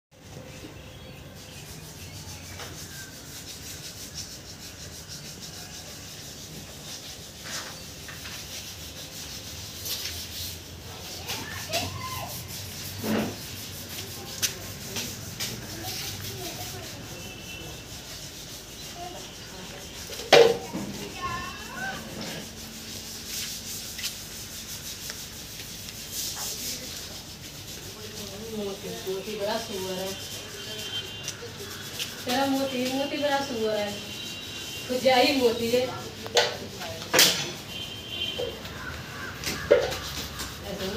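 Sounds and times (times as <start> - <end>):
scratchy rubbing strokes: 0.2 - 40.9
louder scrapes: 1.4 - 40.9.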